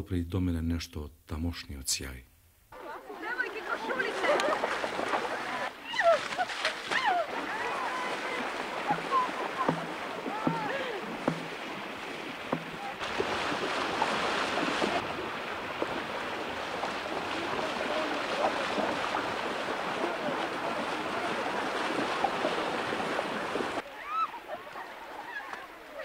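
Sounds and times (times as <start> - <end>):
people splashing through water: 2.7 - 26.0.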